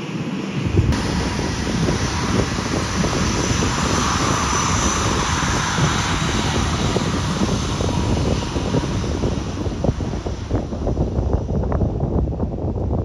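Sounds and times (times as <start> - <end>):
jet engines taxiing: 0.0 - 12.7
wind rumbling on microphone: 0.0 - 13.0.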